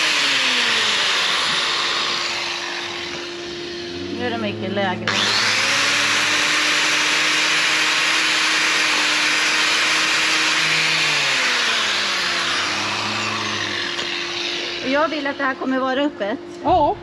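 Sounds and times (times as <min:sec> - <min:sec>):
power grinder grinding: 0:00.0 - 0:15.8.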